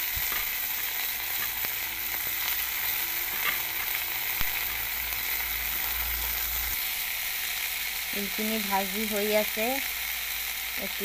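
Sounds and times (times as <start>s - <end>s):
flowers sizzling in hot oil: 0.0s - 11.0s.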